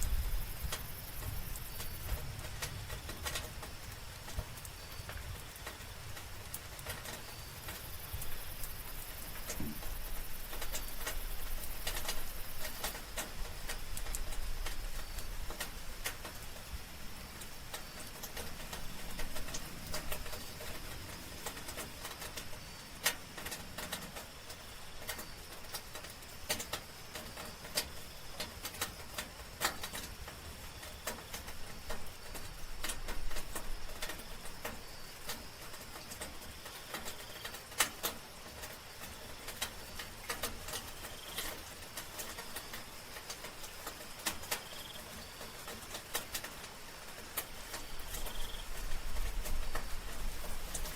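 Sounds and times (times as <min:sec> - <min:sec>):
night insects chirring: 0:00.0 - 0:50.9
soft rain falling: 0:00.0 - 0:50.9.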